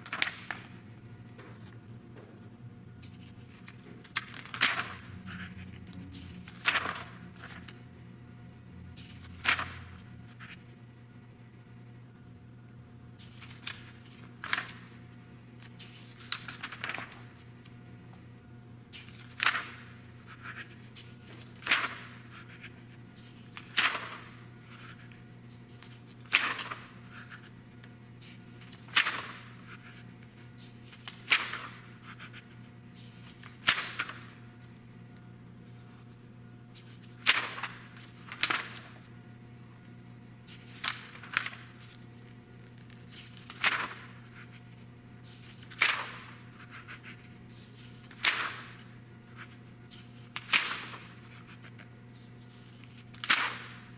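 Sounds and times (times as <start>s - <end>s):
magazine pages turning: 0.0s - 0.8s, 3.0s - 7.8s, 9.0s - 10.8s, 13.2s - 17.8s, 18.9s - 34.7s, 36.8s - 53.9s.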